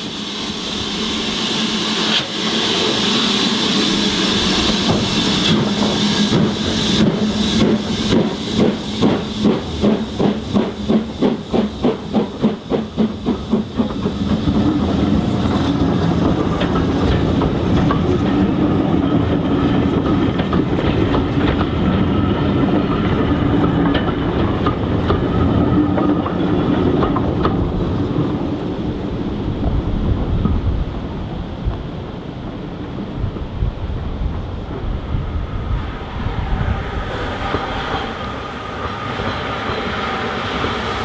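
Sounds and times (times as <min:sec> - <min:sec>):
steam locomotive exhaust beats: 0:00.0 - 0:41.0
train wheels rumbling: 0:00.0 - 0:41.0.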